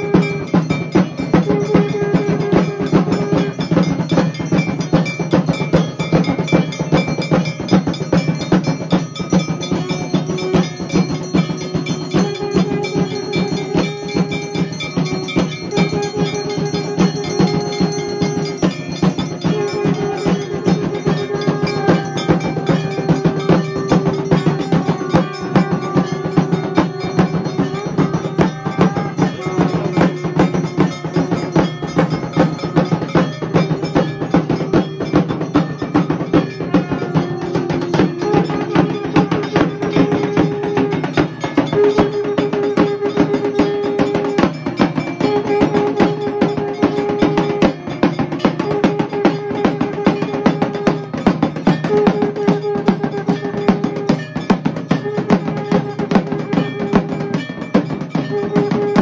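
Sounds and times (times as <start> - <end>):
temple bells clanging: 0.0 - 59.0.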